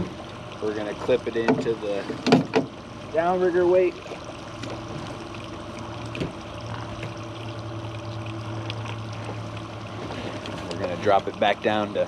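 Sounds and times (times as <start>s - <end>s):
outboard motor humming: 0.0s - 12.0s
water around hull: 0.0s - 12.0s.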